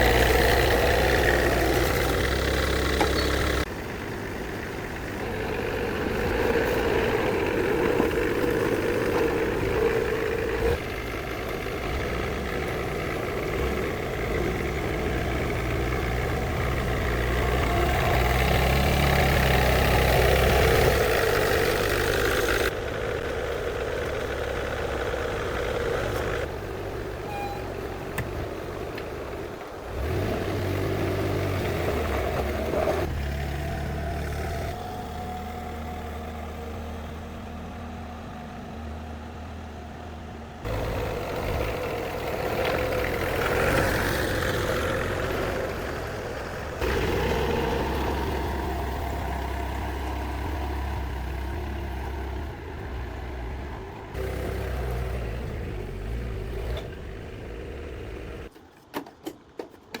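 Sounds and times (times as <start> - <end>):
vehicle engine running: 0.0 - 58.5.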